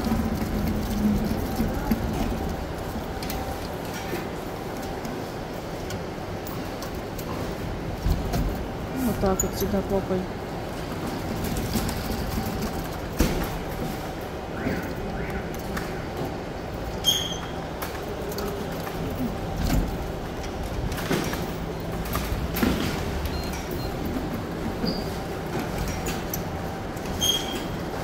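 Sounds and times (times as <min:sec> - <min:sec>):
claw machine mechanical hum: 0:00.0 - 0:28.0.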